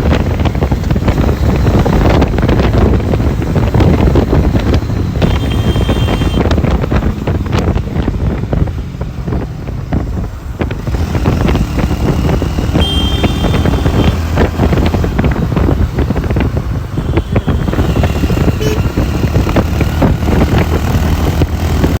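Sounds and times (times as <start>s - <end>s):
motorcycle engine and road rumble: 0.0s - 22.0s
wind buffeting microphone: 0.0s - 22.0s.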